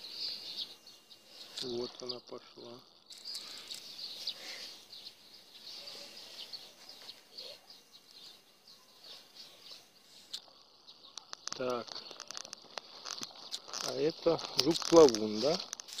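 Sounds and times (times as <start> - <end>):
faint outdoor hiss: 0.0 - 16.0
small birds chirping: 0.0 - 16.0.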